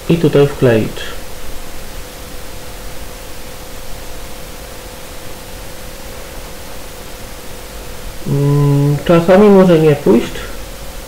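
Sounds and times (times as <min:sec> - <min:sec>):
background hiss: 0:00.0 - 0:11.0
faint steady tone: 0:00.0 - 0:11.0.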